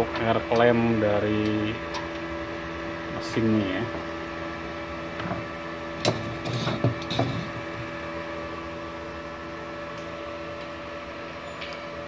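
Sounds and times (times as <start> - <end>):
welder humming: 0.0 - 12.0.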